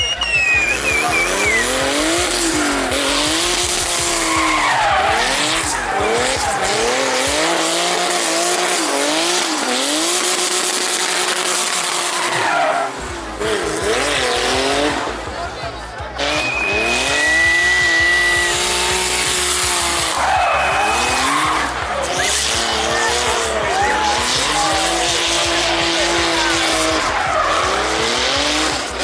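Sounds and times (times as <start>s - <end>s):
car engine revving: 0.0s - 29.0s
tyres spinning on asphalt: 0.0s - 29.0s.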